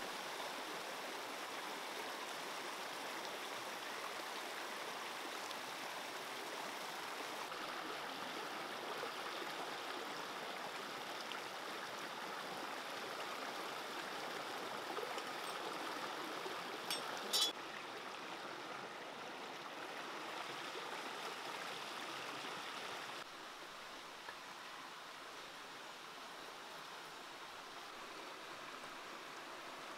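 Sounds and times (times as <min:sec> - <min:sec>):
stream running over rocks: 0:00.0 - 0:29.9.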